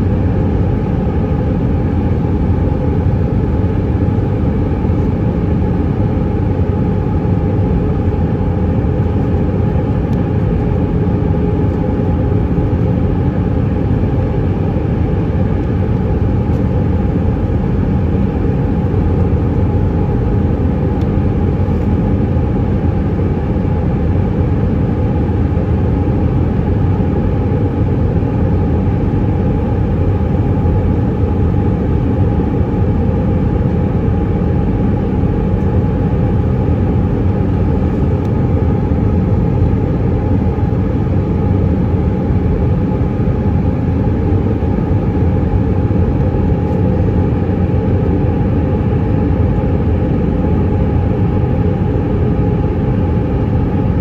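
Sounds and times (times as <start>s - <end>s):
airplane cabin roar: 0.0s - 54.0s
steady hum: 0.0s - 54.0s.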